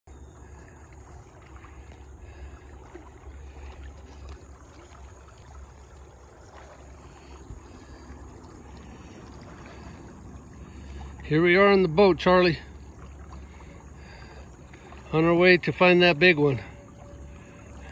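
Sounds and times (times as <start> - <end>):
boat motor low rumble: 0.0 - 17.9
water swishing along hull: 0.0 - 17.9.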